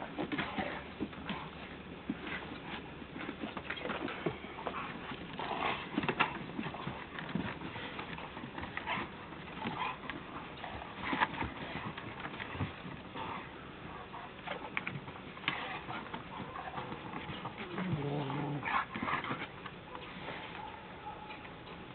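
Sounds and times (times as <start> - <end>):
dogs scuffling and pawing: 0.0 - 21.9.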